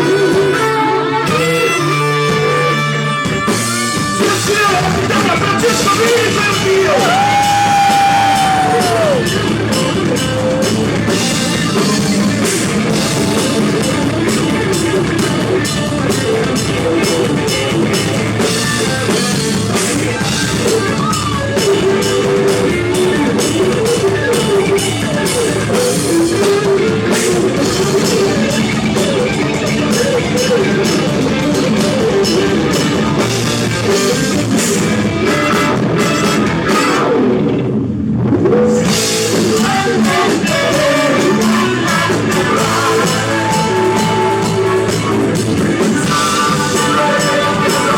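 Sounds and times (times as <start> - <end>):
drum kit playing: 0.0 - 47.9
electric guitar: 0.0 - 47.9.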